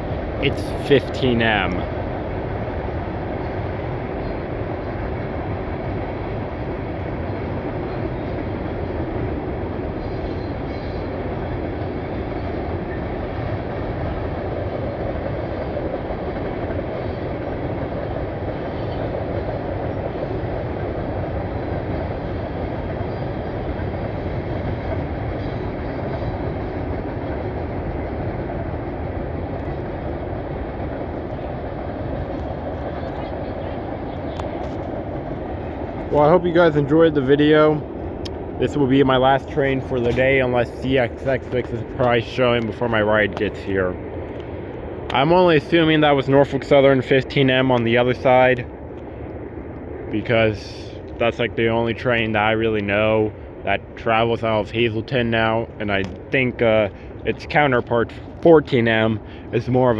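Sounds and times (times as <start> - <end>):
freight train rolling on rails: 0.0 - 59.9.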